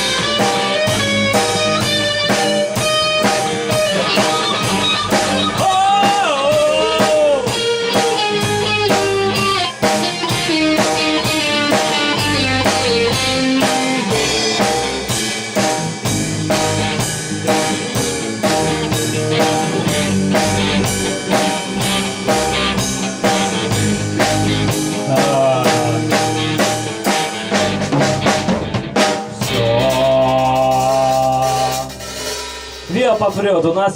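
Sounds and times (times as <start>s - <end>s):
rock band playing: 0.0s - 33.9s.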